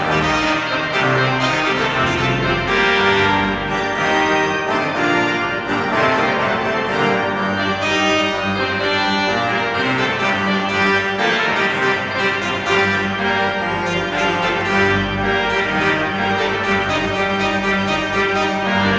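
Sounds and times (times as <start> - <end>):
pipe organ playing chords: 0.0 - 18.9.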